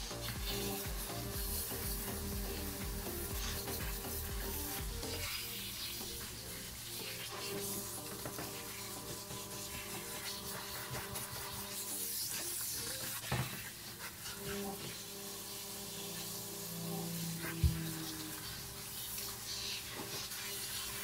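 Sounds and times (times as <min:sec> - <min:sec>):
shower head spraying water: 0:00.0 - 0:21.0.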